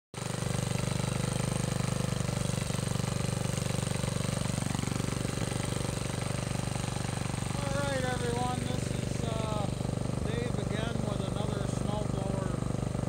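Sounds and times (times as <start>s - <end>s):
snowblower engine running: 0.2s - 13.0s.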